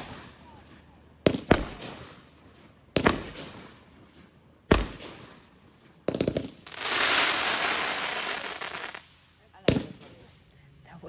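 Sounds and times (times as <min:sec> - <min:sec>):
fireworks bangs: 0:00.0 - 0:10.4
fireworks crackling: 0:00.0 - 0:10.4.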